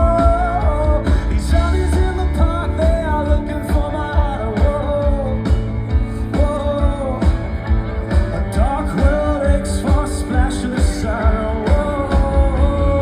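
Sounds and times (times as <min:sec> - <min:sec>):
live pop-rock band: 0:00.0 - 0:13.0
man singing: 0:00.0 - 0:13.0.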